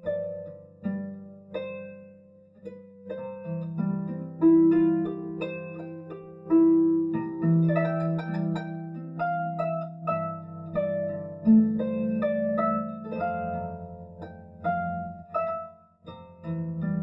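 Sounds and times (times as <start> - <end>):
harp playing slow melody: 0.0 - 17.0.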